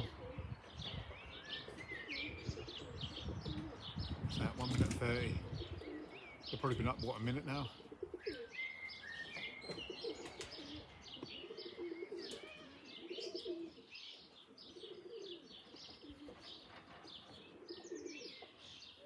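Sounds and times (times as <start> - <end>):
pigeons cooing: 0.0 - 19.0
songbirds chirping and twittering: 0.0 - 19.0.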